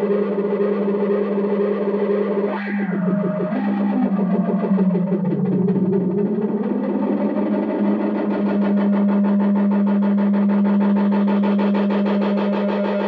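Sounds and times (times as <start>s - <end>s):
electronic oscillator tone: 0.0s - 13.0s.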